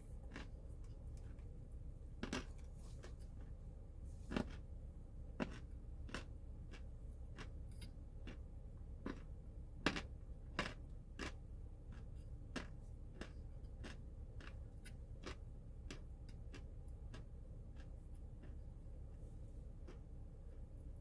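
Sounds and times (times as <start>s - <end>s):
crunchy food being chewed: 0.0s - 1.6s, 2.2s - 4.8s, 5.4s - 21.0s.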